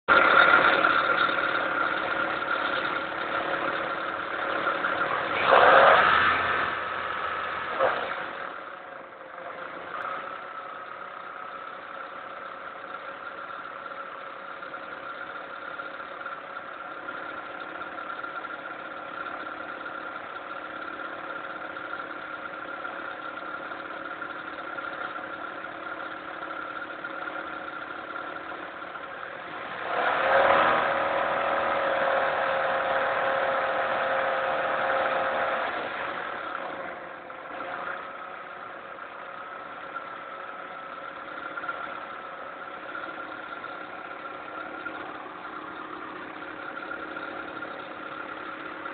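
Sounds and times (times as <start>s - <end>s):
car engine idling: 0.0s - 48.9s
engine ticking: 0.0s - 48.9s.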